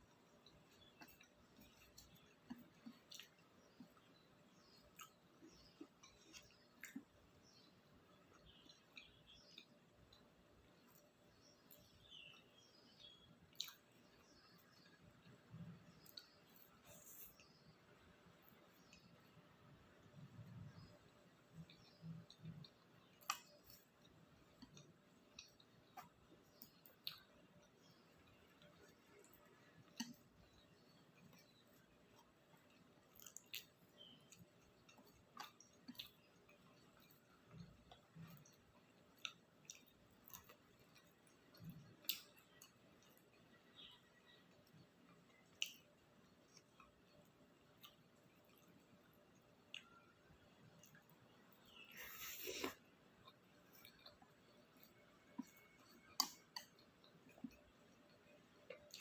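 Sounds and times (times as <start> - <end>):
person chewing food: 0.0 - 59.0
soft eating mouth sounds: 0.0 - 59.0.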